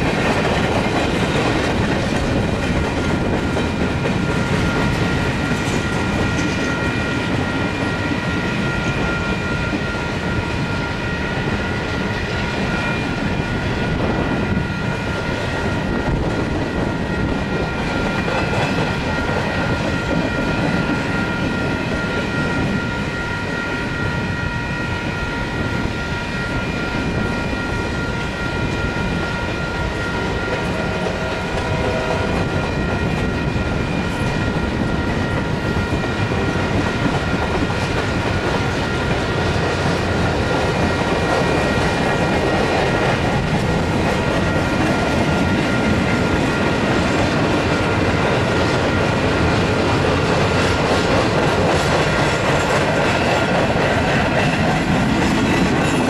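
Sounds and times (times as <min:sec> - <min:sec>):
freight train cars rolling: 0:00.0 - 0:56.0
high ringing tone: 0:03.9 - 0:52.2.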